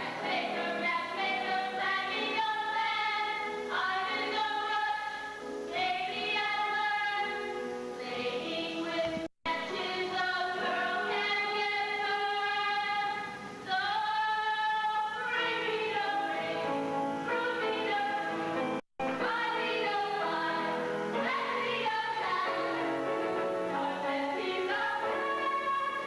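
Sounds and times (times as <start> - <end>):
women singing long held notes: 0.0 - 26.0.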